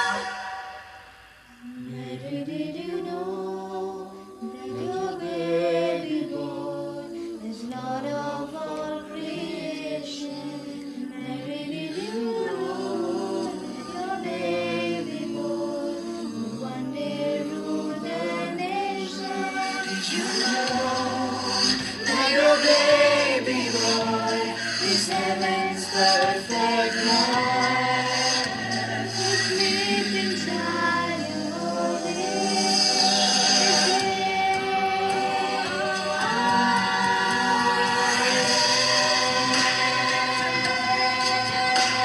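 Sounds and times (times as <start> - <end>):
man and girls singing: 0.0 - 0.8, 1.6 - 42.0.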